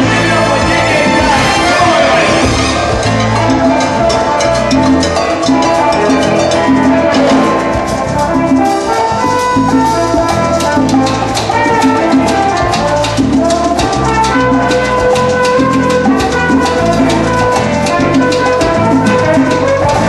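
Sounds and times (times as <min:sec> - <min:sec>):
salsa band playing: 0:00.0 - 0:20.0.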